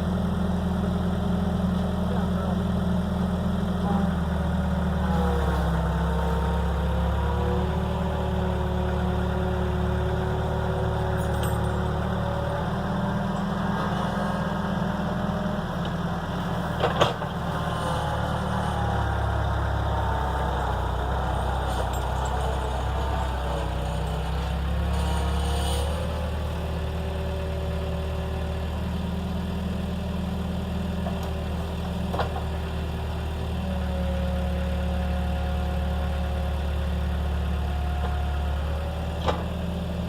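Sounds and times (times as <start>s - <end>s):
skid steer engine idling: 0.0s - 40.0s.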